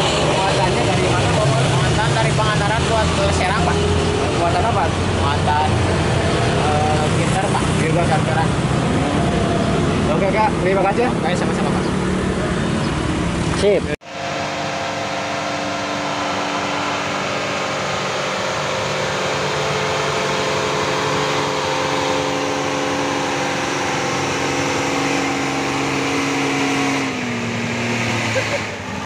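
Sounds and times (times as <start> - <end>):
diesel engine labouring: 0.0 - 29.0.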